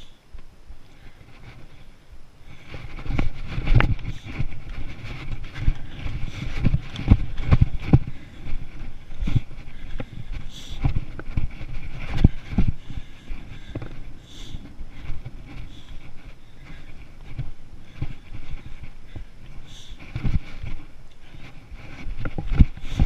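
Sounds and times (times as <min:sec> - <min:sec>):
low steady rumble: 0:00.0 - 0:23.0
boots on stone footsteps: 0:02.5 - 0:23.0.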